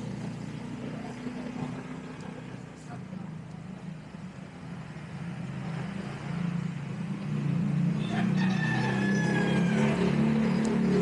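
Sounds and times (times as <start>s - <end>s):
street noise: 0.0s - 11.0s
vehicle engine running: 0.0s - 11.0s.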